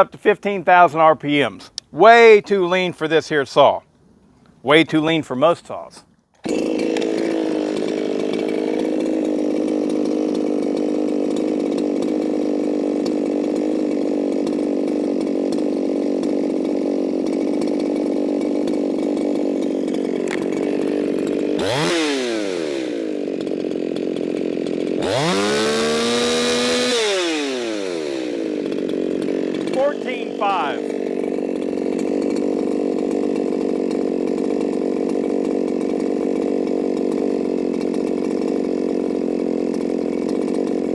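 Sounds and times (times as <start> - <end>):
chainsaw revving: 0.0 - 2.6, 5.7 - 40.9.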